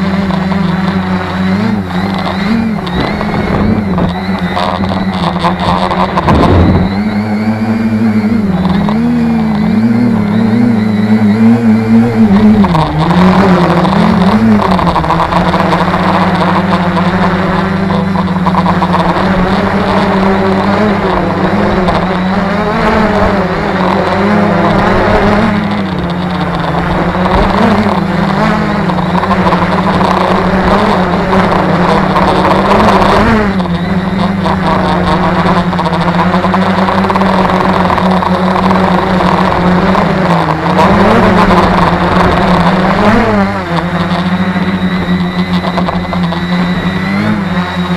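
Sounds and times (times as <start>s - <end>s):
drone motors and propellers humming: 0.0s - 47.9s.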